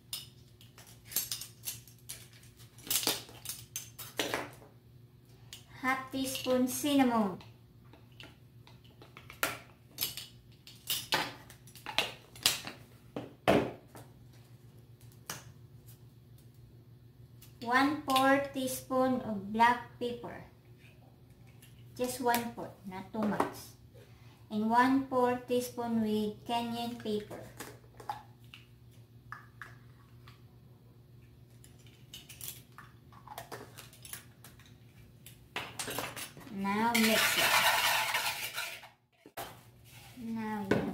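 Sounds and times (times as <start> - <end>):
faint steady hum: 0.0 - 37.1.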